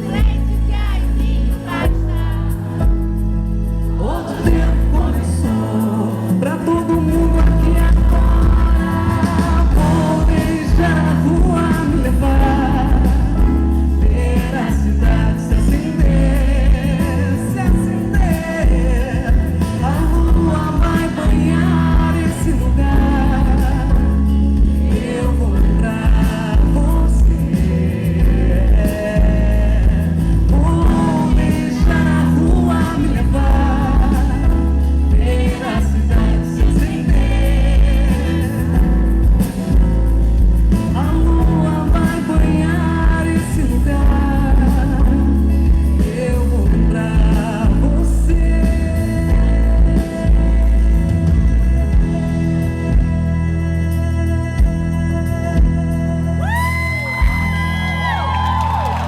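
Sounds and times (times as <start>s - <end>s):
woman singing lead vocal: 0.0s - 3.2s, 3.8s - 39.2s, 40.8s - 51.9s
live pop band with heavy bass: 0.0s - 59.0s.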